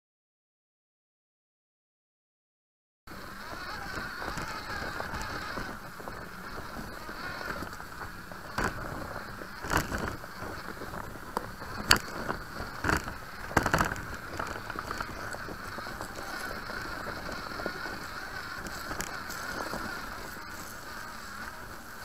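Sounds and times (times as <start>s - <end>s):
electric drivetrain whine: 3.1s - 22.0s.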